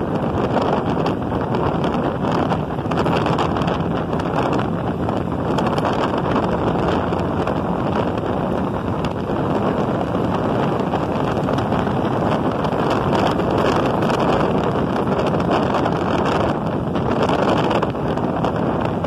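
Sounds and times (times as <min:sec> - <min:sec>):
motorcycle engine: 0:00.0 - 0:19.0
road noise: 0:00.0 - 0:19.0
wind rushing over microphone: 0:00.0 - 0:19.0.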